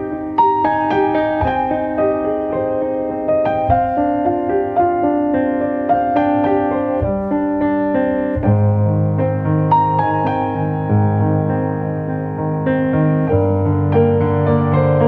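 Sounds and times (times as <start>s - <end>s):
deep piano bass notes: 0.0s - 15.0s
piano melody: 0.0s - 15.0s.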